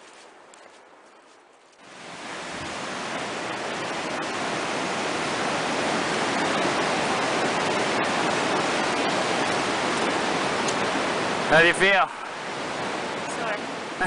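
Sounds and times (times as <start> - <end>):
rushing water: 1.8 - 14.0.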